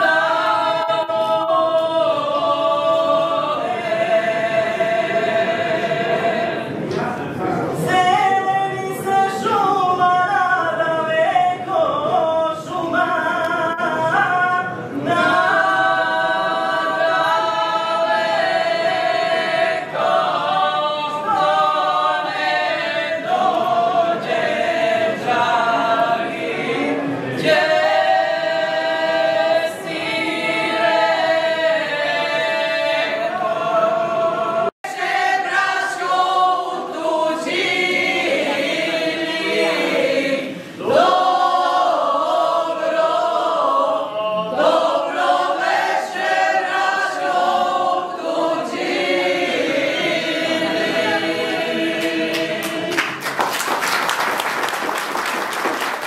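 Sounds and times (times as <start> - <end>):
women singing in harmony: 0.0 - 6.9, 7.8 - 53.3
group of women singing: 0.0 - 7.2, 7.8 - 53.3.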